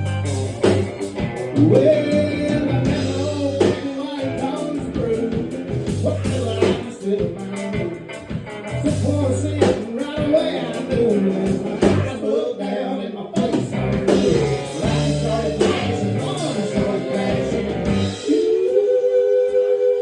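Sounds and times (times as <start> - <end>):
live country band playing: 0.0 - 18.7
person singing: 1.4 - 20.0.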